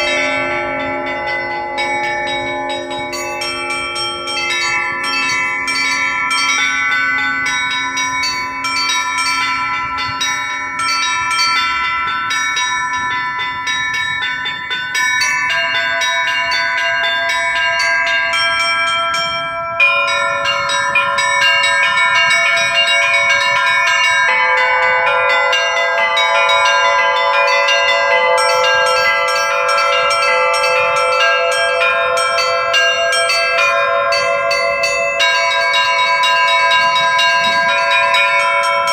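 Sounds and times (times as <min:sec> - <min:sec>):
large bells ringing: 0:00.0 - 0:38.9
small bells struck quickly: 0:00.0 - 0:38.9.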